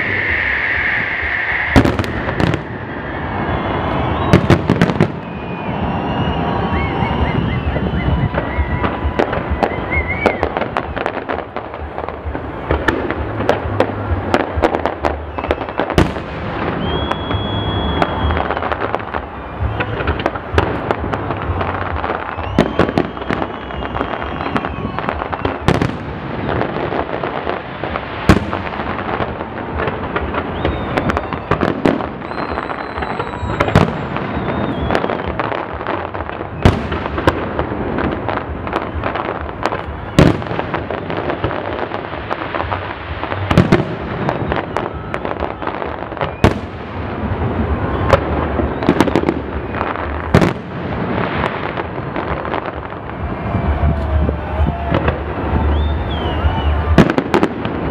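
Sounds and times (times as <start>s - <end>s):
fireworks bangs: 0.0s - 57.9s
fireworks crackling: 0.0s - 57.9s
thin firework whistles: 0.0s - 57.9s.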